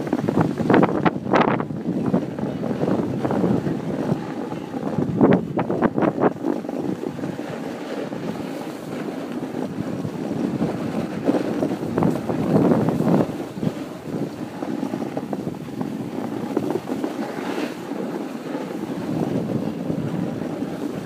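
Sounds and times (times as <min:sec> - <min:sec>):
wind buffeting microphone: 0:00.0 - 0:21.0
sliding over packed snow: 0:01.8 - 0:21.0.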